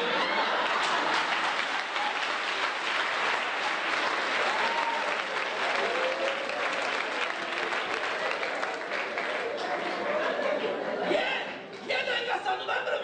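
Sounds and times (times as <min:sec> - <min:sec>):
audience clapping: 0:00.0 - 0:10.8.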